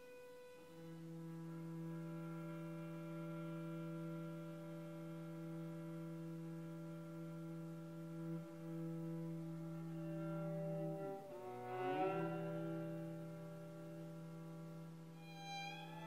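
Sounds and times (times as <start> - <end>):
cello holding a low note: 0.0 - 16.0.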